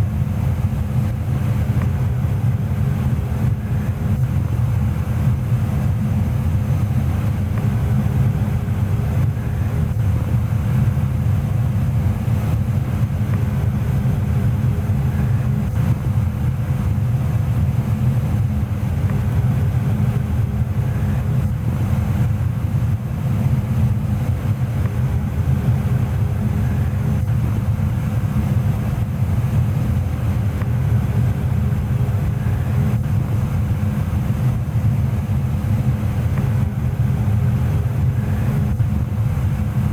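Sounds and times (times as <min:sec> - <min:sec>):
faint steady hum: 0:00.0 - 0:39.9
gas furnace running: 0:00.0 - 0:39.9.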